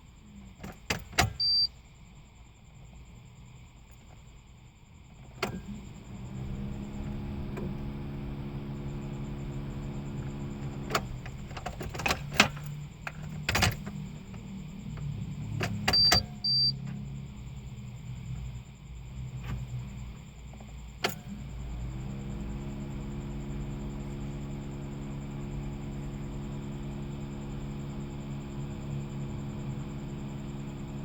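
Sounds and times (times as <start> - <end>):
electric hum: 4.8 - 31.0.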